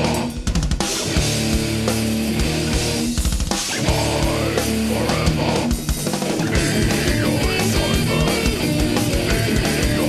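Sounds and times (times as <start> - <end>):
distorted electric guitars: 0.0 - 10.0
rapid bass drum beats: 0.0 - 10.0.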